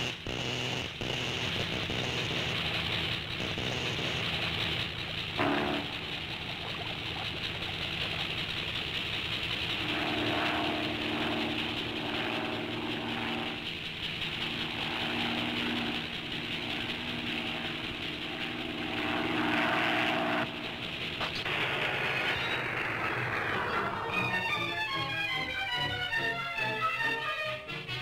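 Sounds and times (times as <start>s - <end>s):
mechanical drone and whir: 0.0s - 28.0s
pitched hums: 0.0s - 28.0s.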